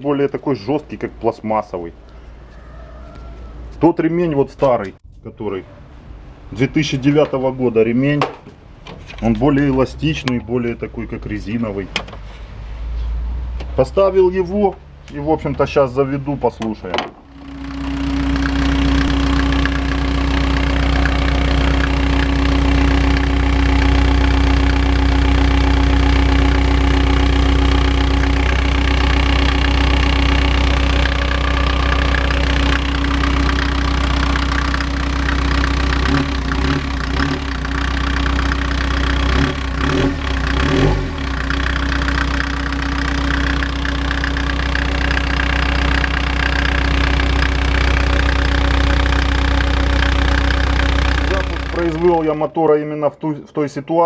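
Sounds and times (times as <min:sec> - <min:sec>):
van engine idling: 0:04.9 - 0:52.5.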